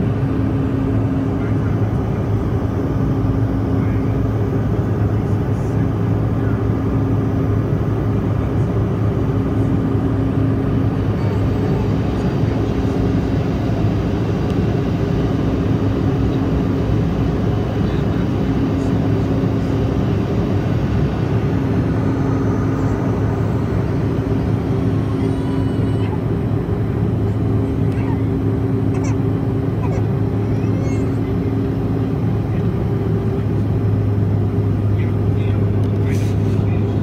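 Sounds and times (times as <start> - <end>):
airliner engine drone: 0.0 - 37.0
constant low hum: 0.0 - 37.0.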